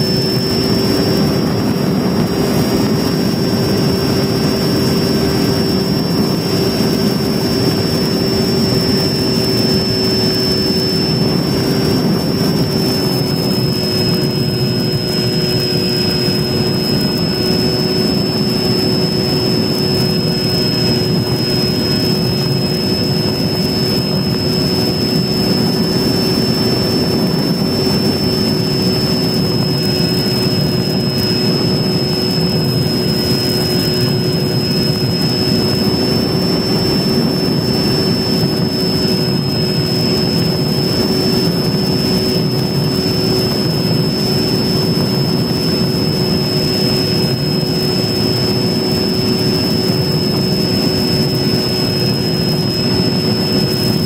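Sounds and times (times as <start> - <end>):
electric motor high whine: 0.0 - 54.0
rushing wind noise: 0.0 - 54.0.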